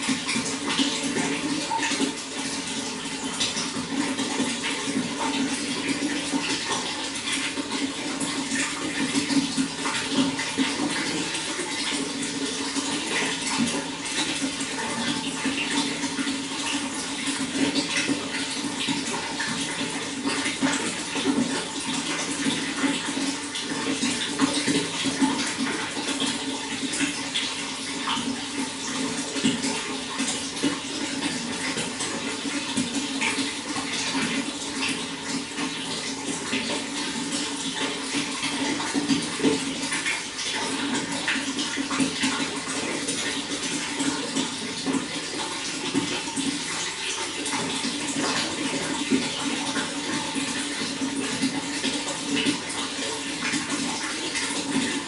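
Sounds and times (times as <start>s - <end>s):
water pouring and splashing: 0.0s - 55.0s.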